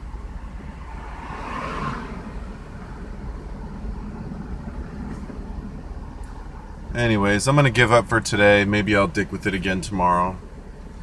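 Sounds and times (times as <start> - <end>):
car engine idling: 0.0 - 1.4, 2.0 - 11.0.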